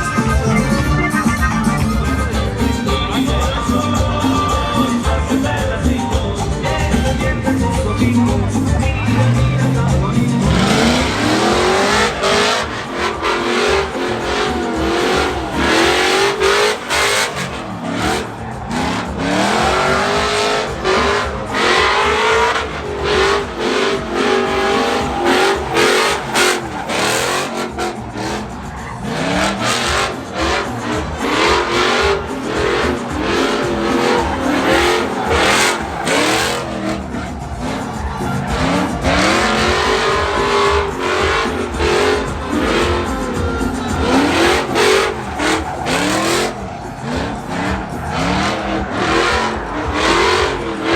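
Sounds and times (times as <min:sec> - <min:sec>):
truck engine revving: 0:00.0 - 0:50.9
tyres squealing and spinning: 0:00.0 - 0:50.9.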